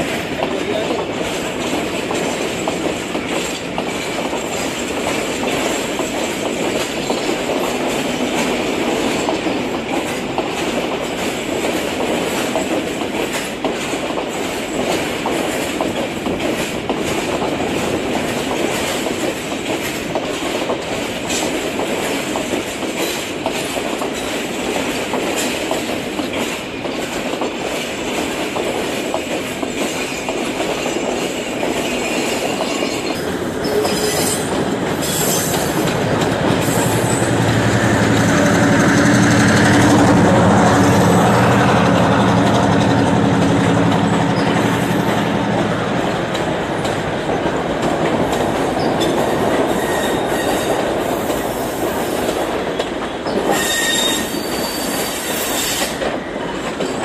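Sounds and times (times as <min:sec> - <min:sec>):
train coaches rolling on rails: 0:00.0 - 0:57.0.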